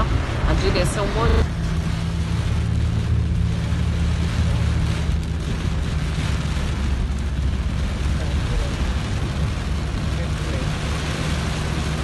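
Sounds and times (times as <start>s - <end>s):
car low rumble: 0.0s - 12.0s
heavy rain on car roof: 0.0s - 12.0s.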